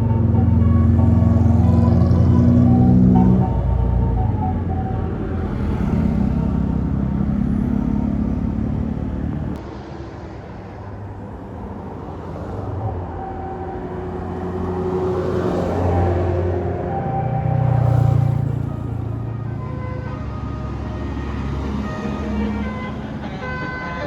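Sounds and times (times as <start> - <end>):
bus diesel engine passing: 0.0 - 24.0
road noise: 0.0 - 24.0.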